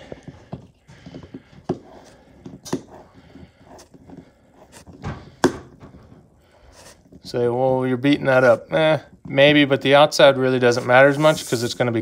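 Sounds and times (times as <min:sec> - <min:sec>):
scraping: 0:00.0 - 0:12.0.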